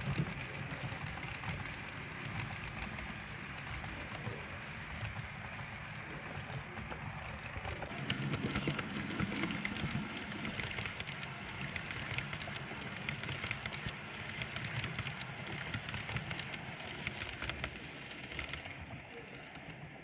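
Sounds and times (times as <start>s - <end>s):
model train motor and wheel rumble: 0.0s - 20.0s
small irregular ticks and clicks: 0.0s - 20.0s.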